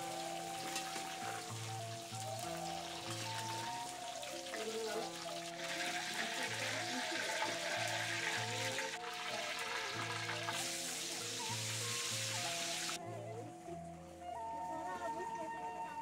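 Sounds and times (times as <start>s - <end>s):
oil sizzling in a wok: 0.0s - 13.0s
plucked zither with bamboo flute: 0.0s - 13.0s.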